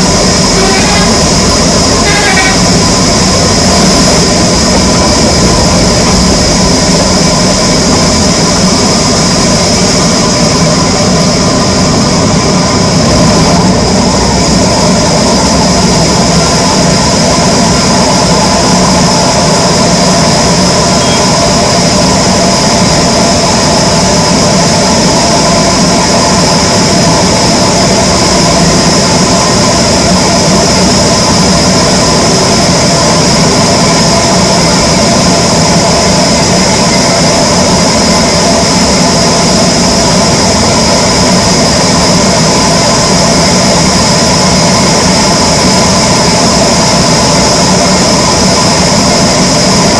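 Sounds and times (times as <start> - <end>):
saw machinery humming and whining: 0.0 - 49.9.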